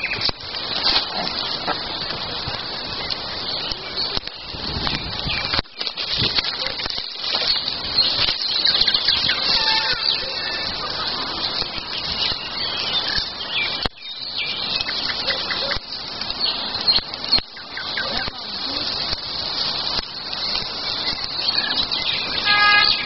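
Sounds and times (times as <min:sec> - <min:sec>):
songbirds singing: 0:00.0 - 0:23.0
steady rushing background noise: 0:00.0 - 0:23.0.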